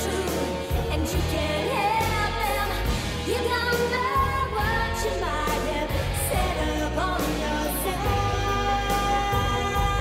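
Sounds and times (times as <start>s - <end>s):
bass line: 0.0s - 10.0s
person singing: 0.0s - 10.0s.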